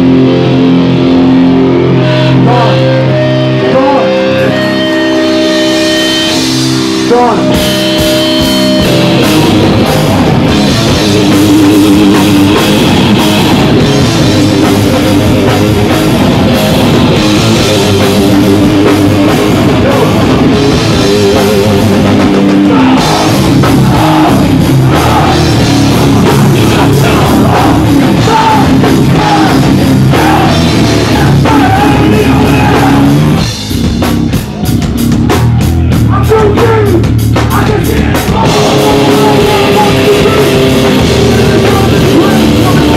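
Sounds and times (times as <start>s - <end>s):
distorted electric guitars: 0.0s - 42.9s
pounding drum kit: 0.0s - 42.9s.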